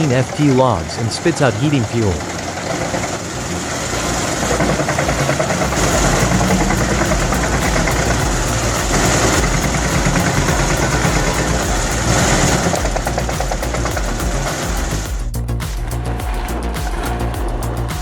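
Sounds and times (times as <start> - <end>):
wood chipper engine pulsing: 0.0 - 18.0.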